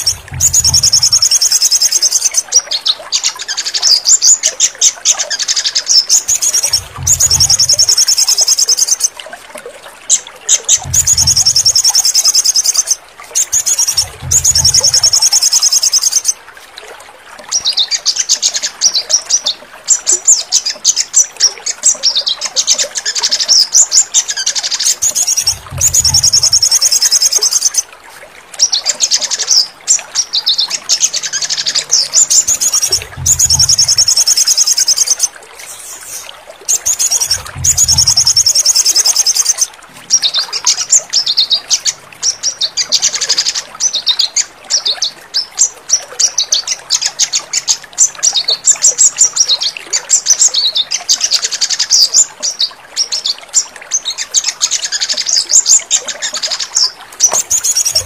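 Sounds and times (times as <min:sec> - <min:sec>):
birds trilling and chirping: 0:00.0 - 0:09.2, 0:10.0 - 0:16.4, 0:17.5 - 0:27.9, 0:28.6 - 0:58.0.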